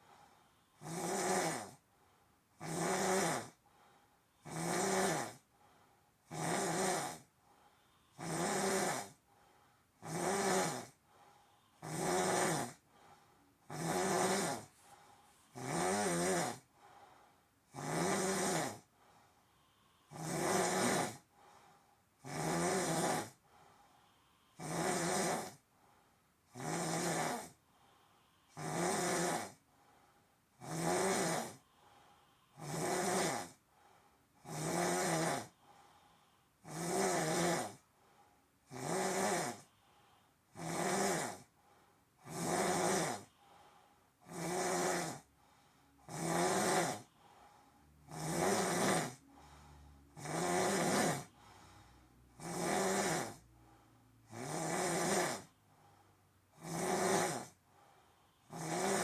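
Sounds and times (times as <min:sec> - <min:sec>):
rasping snoring: 0:00.0 - 0:01.8, 0:02.6 - 0:03.6, 0:04.4 - 0:05.5, 0:06.2 - 0:25.7, 0:26.4 - 0:29.7, 0:30.5 - 0:37.9, 0:38.6 - 0:41.5, 0:42.2 - 0:59.0.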